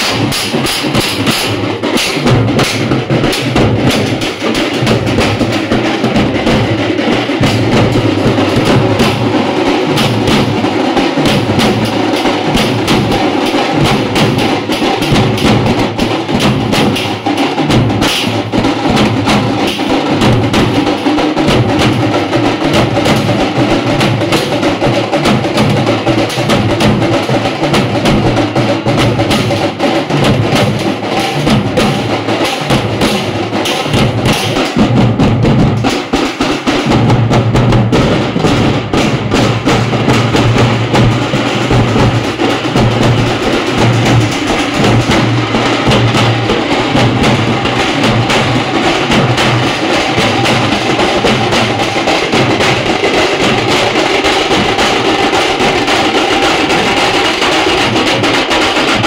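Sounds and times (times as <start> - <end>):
frame drums beaten with sticks: 0.0 - 59.0.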